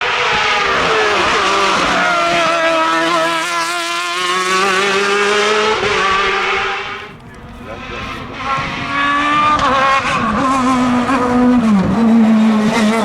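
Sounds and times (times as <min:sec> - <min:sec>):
race car engine accelerating hard: 0:00.0 - 0:13.0.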